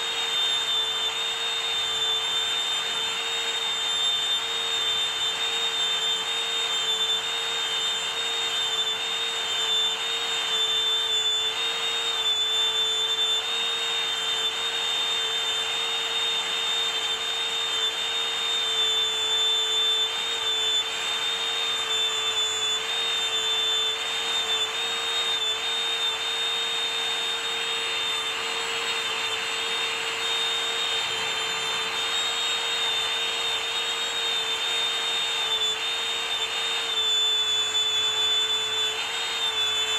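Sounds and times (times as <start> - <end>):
electric power tool whining: 0.0 - 39.9.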